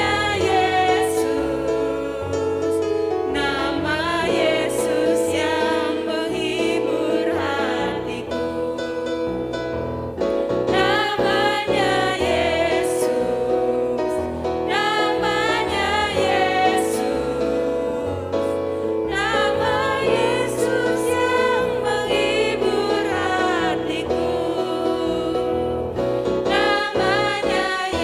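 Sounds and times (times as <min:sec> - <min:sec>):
instrumental backing: 0:00.0 - 0:28.0
voices singing worship song: 0:00.0 - 0:28.0.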